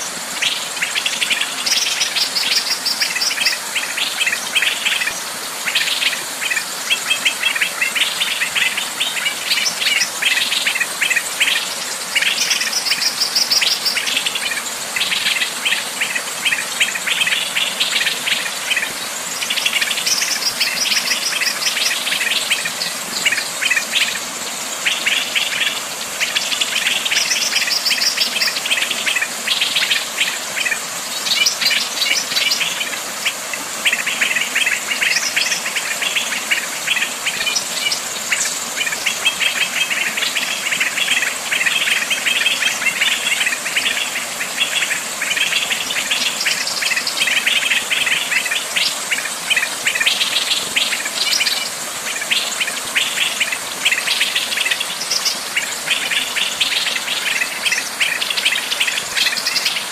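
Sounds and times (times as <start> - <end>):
flowing water: 0.0 - 59.9
songbirds chirping and trilling: 0.0 - 59.9.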